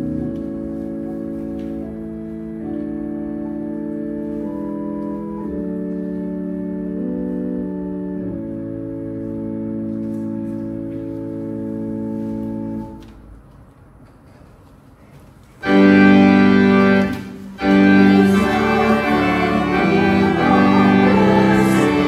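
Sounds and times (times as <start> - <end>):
organ playing slow chords: 0.0 - 13.3, 15.6 - 22.0.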